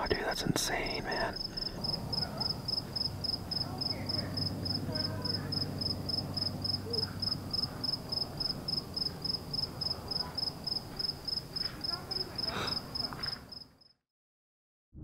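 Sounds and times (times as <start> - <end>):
faint low hum: 0.0 - 13.5
cricket chirping: 1.0 - 14.0.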